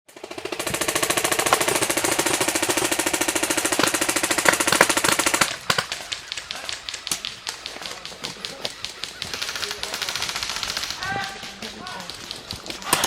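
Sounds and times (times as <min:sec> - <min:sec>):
machine gun firing rapid bursts: 0:00.1 - 0:13.0
sharp clicks: 0:00.7 - 0:13.0.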